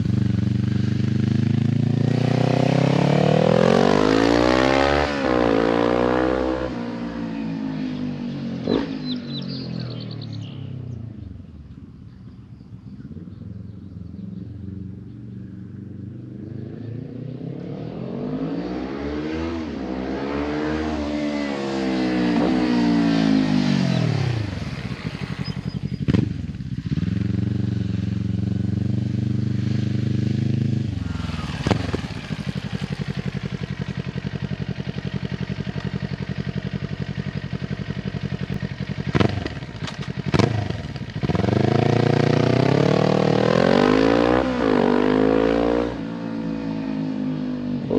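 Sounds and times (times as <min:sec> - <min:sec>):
motorcycle accelerating past: 0:00.0 - 0:11.3, 0:13.3 - 0:47.9.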